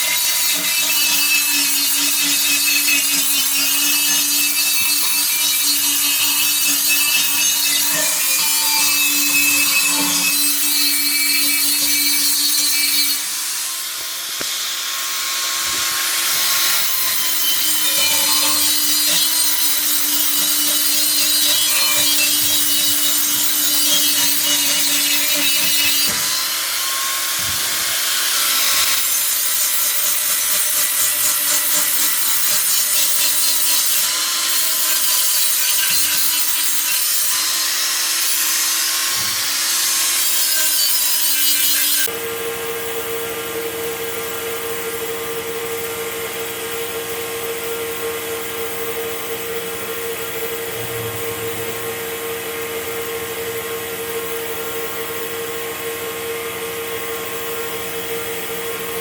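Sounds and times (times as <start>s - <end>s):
power tool rasping hiss: 0.0s - 59.0s.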